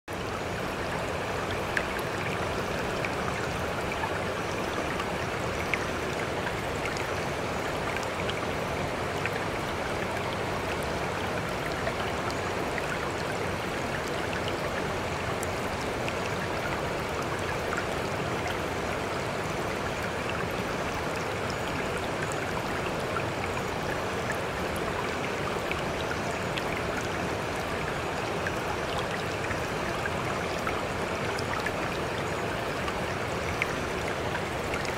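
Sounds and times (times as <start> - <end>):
babbling stream: 0.1 - 34.9
water drips and splashes: 0.1 - 34.9.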